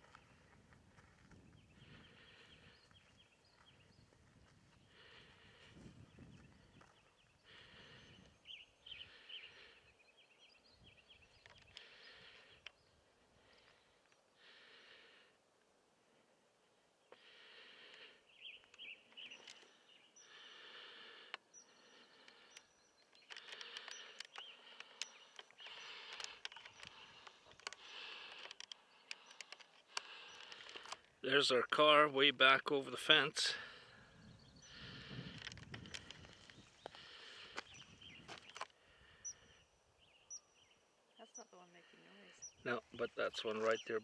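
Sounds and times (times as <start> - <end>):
soft breathing: 0.0 - 31.2, 33.4 - 39.7.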